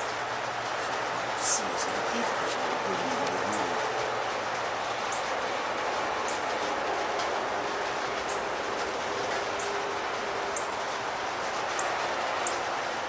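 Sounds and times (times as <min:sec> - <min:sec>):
outdoor hiss: 0:00.0 - 0:13.0.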